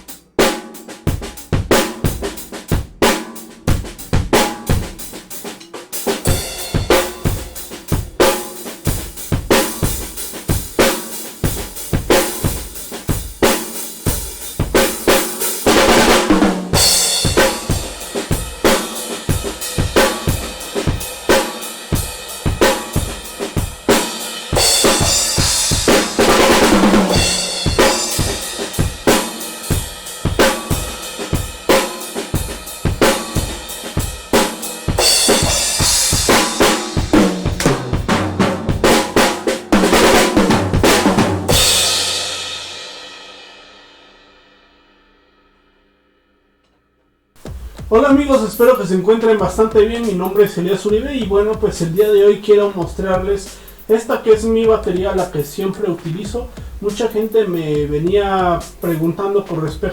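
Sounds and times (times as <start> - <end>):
drum kit groove: 0.0 - 44.2, 47.4 - 59.9
cymbal washes: 4.4 - 43.5, 47.4 - 59.9.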